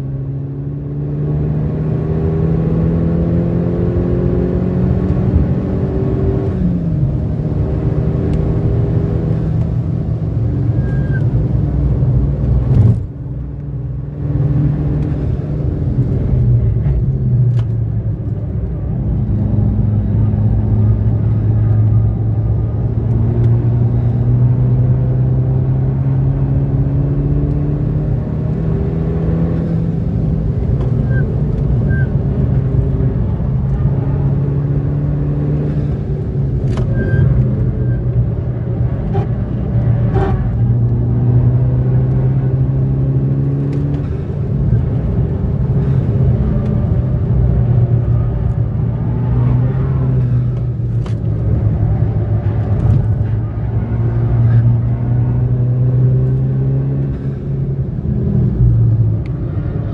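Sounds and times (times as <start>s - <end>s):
car engine accelerating: 0.0s - 59.9s
road noise inside car: 0.0s - 59.9s.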